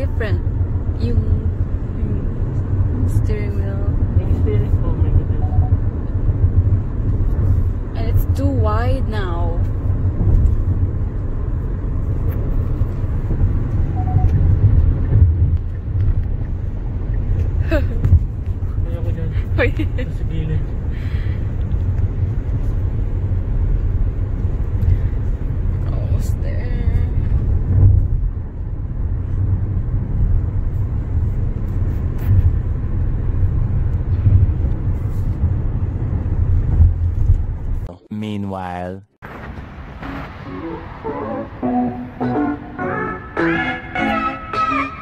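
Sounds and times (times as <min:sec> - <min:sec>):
road and engine rumble in car: 0:00.0 - 0:45.0.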